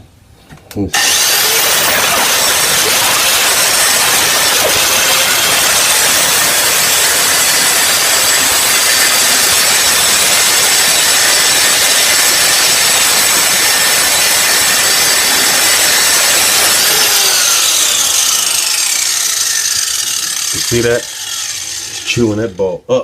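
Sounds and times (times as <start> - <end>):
angle grinder cutting steel: 1.0 - 22.6.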